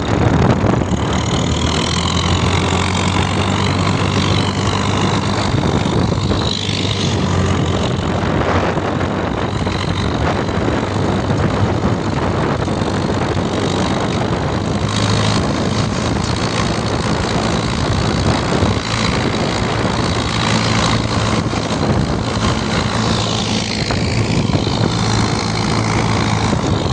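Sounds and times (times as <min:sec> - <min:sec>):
tractor engine humming: 0:00.0 - 0:26.9
wind noise: 0:00.0 - 0:26.9.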